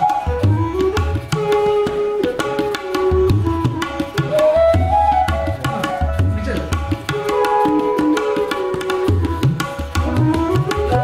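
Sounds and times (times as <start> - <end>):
sliding instrumental melody: 0.0 - 11.0.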